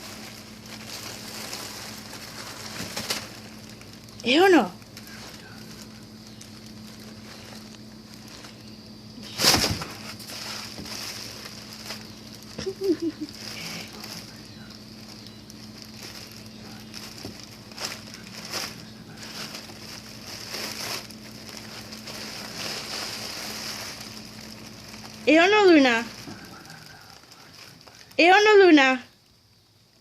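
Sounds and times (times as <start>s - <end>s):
bubble wrap crackling: 0.0s - 30.0s
steady background hum: 0.0s - 30.0s.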